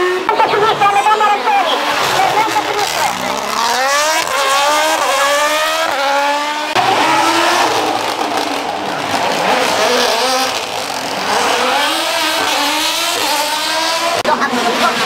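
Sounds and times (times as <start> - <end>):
rally car engine running hard: 1.7 - 15.0.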